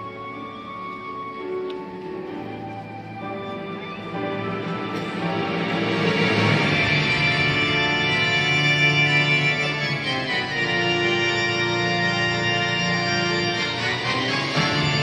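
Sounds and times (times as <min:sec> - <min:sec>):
music of sustained chords: 0:00.0 - 0:15.0.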